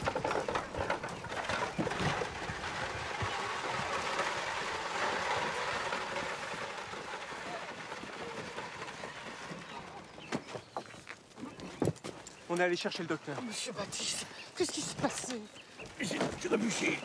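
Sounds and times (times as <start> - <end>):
clatter of hooves: 0.0 - 17.0
wooden wheels grinding on gravel: 0.0 - 17.0.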